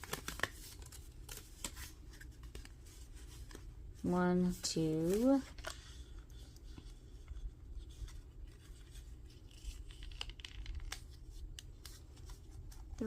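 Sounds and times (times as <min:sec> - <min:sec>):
paper rustling: 0:00.0 - 0:03.7, 0:04.3 - 0:13.0
low steady hum: 0:00.0 - 0:13.0.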